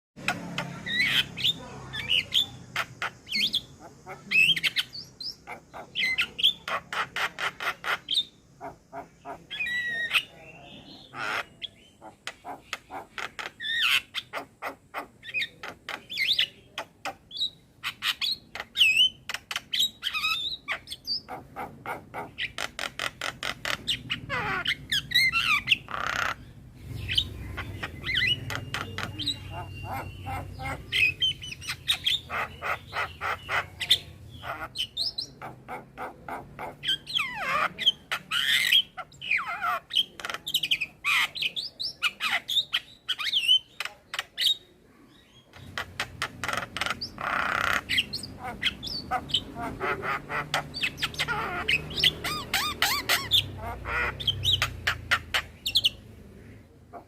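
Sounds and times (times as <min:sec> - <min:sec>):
myna bird singing: 0:00.2 - 0:57.0.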